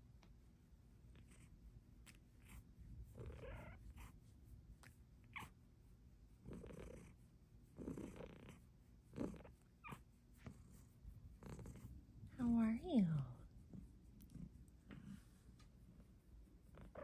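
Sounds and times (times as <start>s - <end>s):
cat purring: 1.0s - 5.6s, 6.3s - 17.0s.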